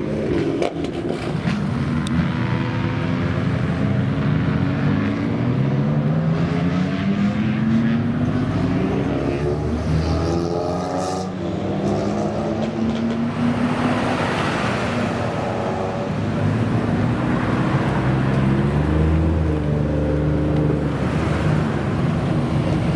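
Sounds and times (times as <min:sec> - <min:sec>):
loud car exhausts revving: 0:00.0 - 0:22.9.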